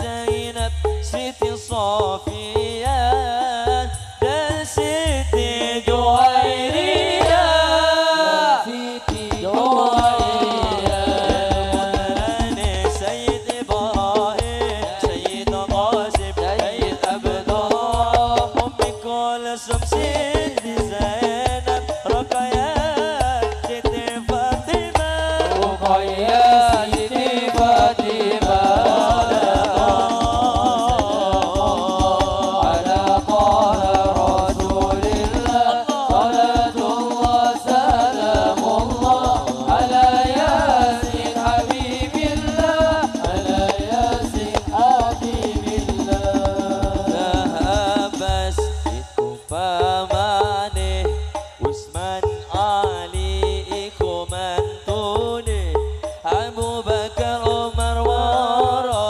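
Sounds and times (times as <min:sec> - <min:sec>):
fast hand-drum rhythm: 0:00.0 - 0:59.0
male voices singing: 0:00.0 - 0:59.0.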